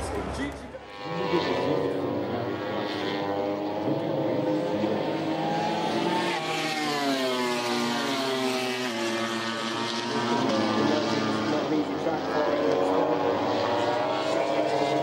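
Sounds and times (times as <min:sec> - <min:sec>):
engines running: 0:00.0 - 0:15.0.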